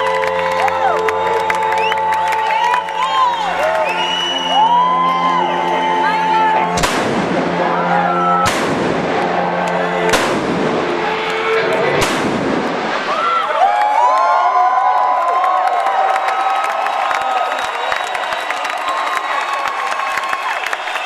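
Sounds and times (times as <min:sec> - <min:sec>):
crowd cheering and whooping: 0:00.0 - 0:10.1, 0:10.7 - 0:12.0, 0:12.8 - 0:21.0.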